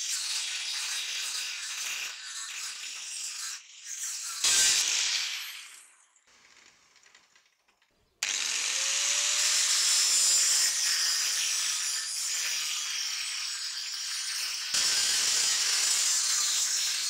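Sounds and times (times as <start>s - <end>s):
angle grinder grinding steel: 0.0s - 5.9s, 8.2s - 17.0s.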